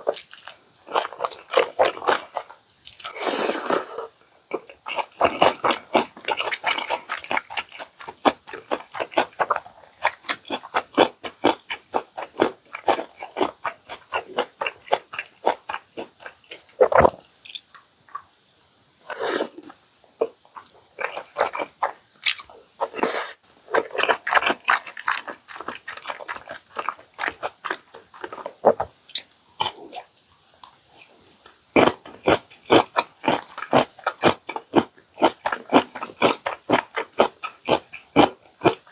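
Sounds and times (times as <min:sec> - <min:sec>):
person chewing and crunching food: 0:00.0 - 0:18.3, 0:19.1 - 0:38.9.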